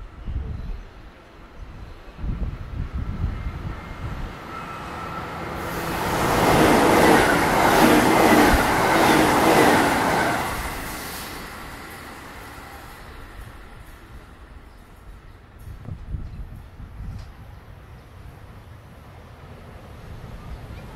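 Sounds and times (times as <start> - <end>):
train passing at speed: 0.0 - 20.9.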